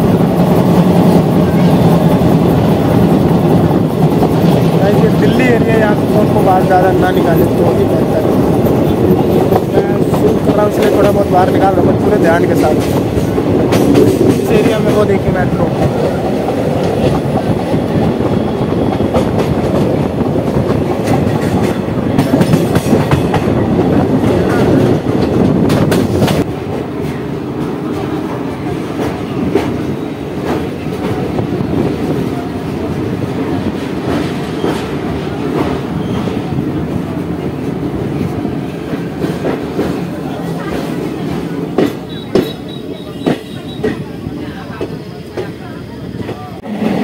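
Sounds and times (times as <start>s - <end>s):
rail joint clickety-clack: 0.0s - 47.0s
train wheels rumbling on rail: 0.0s - 47.0s.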